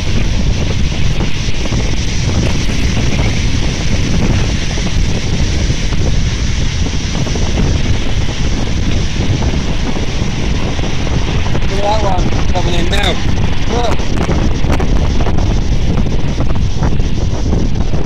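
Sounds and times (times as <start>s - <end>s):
surf breaking on shingle beach: 0.0s - 18.0s
wind buffeting microphone: 0.0s - 18.0s.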